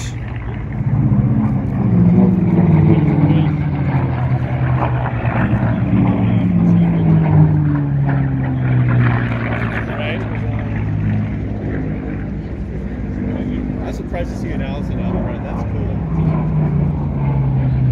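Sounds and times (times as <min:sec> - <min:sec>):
propeller planes flying past: 0:00.0 - 0:17.9.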